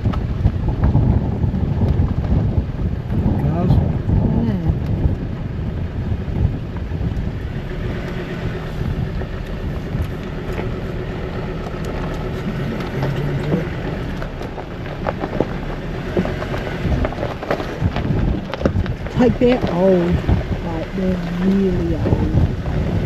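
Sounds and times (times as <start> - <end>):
vehicle rumble: 0.0 - 23.0
wind noise on microphone: 0.0 - 23.0.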